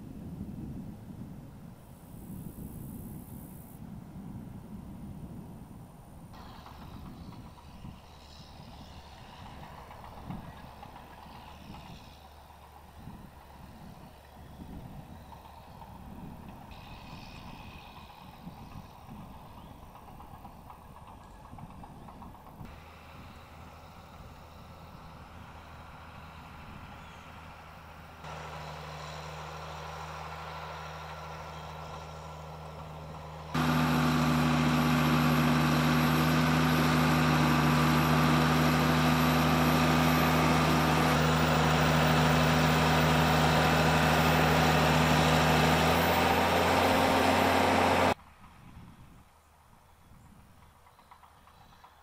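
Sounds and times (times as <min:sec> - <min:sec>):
tractor engine running: 0:00.0 - 0:49.6.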